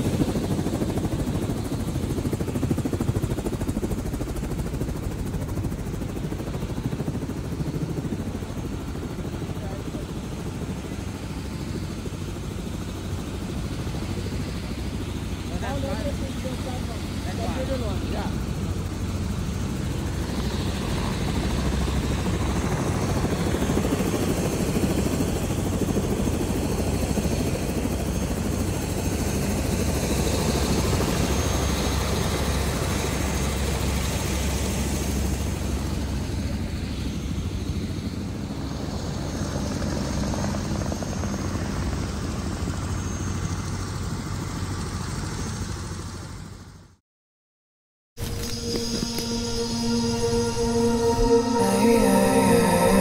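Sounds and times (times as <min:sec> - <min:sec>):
high turbine whine: 0:00.0 - 0:38.0, 0:48.2 - 0:53.0
helicopter rotor and turbine drone: 0:00.0 - 0:46.9, 0:48.2 - 0:53.0.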